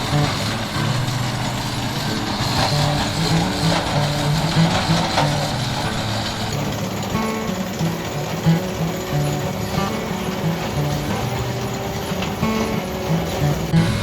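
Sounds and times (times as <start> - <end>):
music playing: 0.0 - 14.0
rock saw trencher cutting rock: 0.0 - 14.0.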